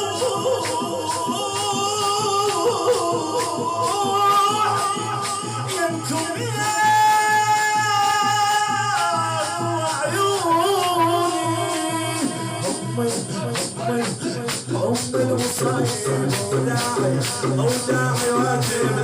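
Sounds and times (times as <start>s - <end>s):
man chanting: 0.0s - 19.0s
rhythmic hand strikes: 0.0s - 19.0s.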